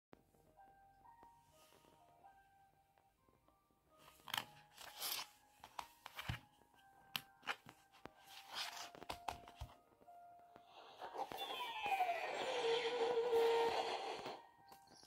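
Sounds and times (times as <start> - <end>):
faint music: 0.2 - 15.0.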